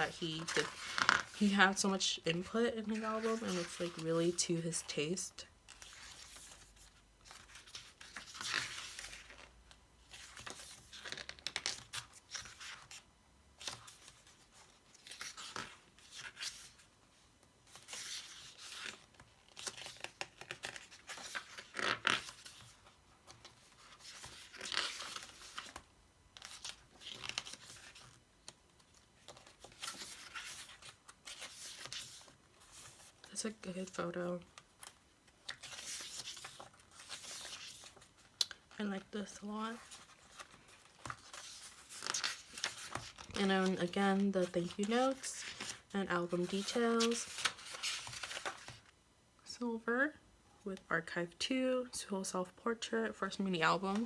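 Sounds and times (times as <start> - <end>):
paper pages rustling: 0.0 - 5.0, 5.7 - 17.0, 17.7 - 48.9.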